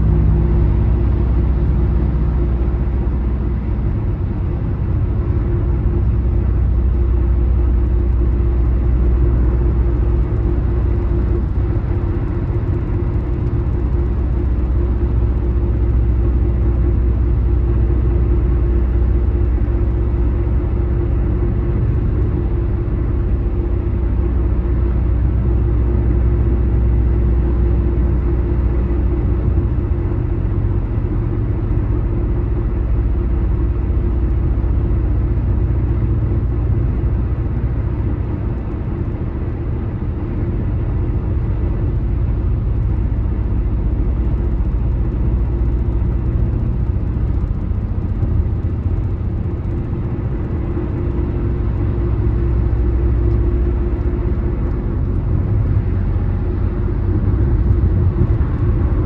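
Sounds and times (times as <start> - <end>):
car engine running: 0.0 - 59.0
tyres rumbling on road: 0.0 - 59.0.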